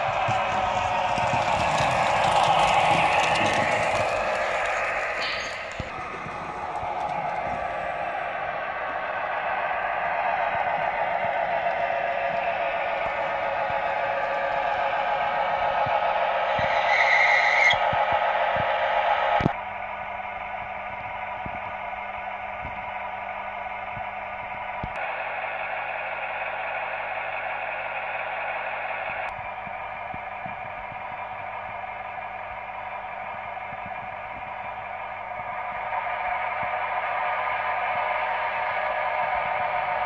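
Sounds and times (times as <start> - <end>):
tinny diesel engine sound: 0.0 - 40.0.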